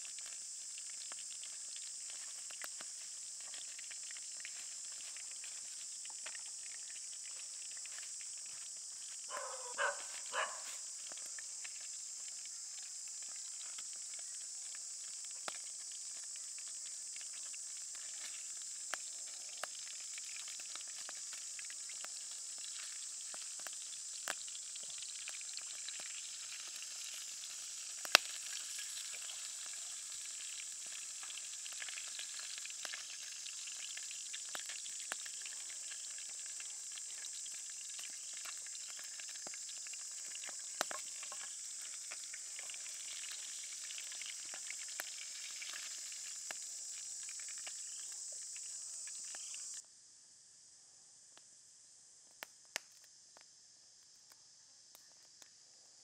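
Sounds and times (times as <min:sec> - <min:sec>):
fish frying in hot oil: 0:00.0 - 0:49.8.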